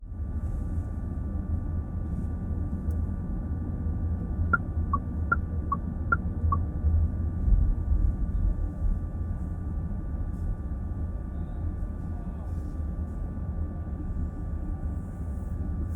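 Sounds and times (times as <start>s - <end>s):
car road and engine rumble: 0.0s - 15.9s.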